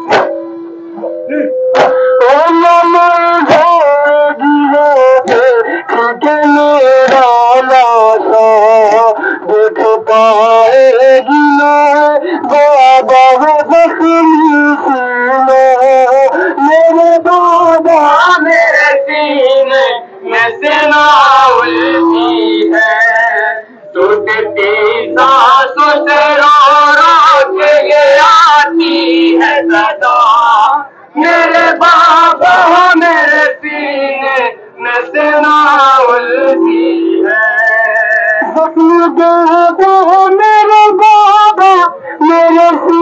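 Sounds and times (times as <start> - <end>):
voices singing a lament: 0.0 - 43.0.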